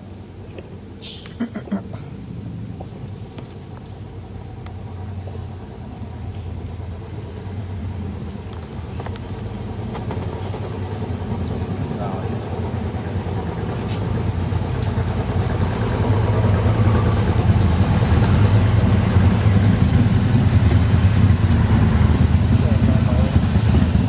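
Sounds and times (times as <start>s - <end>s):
high insect drone: 0.0s - 24.0s
low engine rumble: 0.0s - 24.0s.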